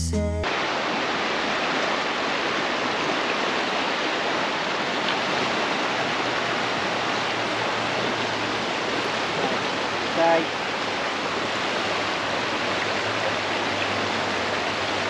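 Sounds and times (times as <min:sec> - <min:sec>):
river rushing over stones: 0:00.4 - 0:15.0.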